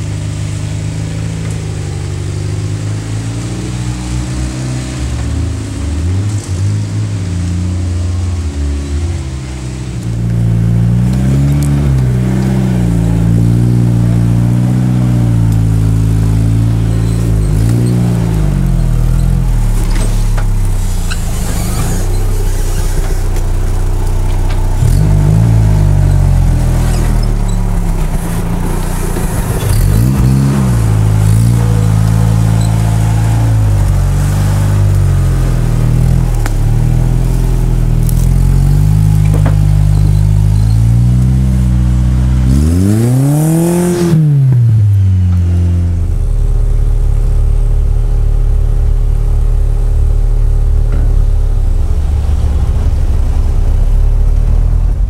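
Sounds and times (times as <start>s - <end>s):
off-road engine revving: 0.0s - 55.0s.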